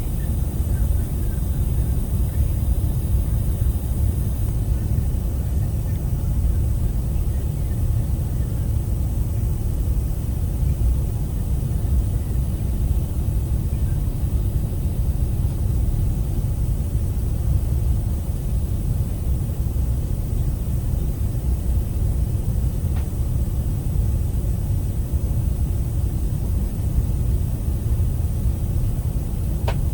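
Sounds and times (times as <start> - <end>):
aircraft cabin rumble: 0.0 - 29.9.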